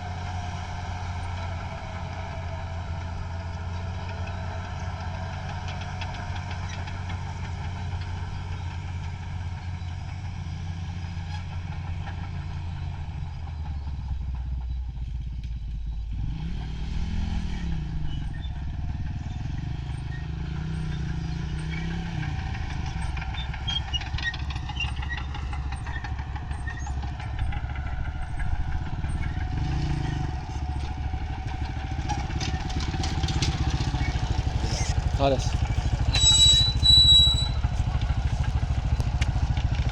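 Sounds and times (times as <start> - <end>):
road machinery engine running: 0.0 - 39.9.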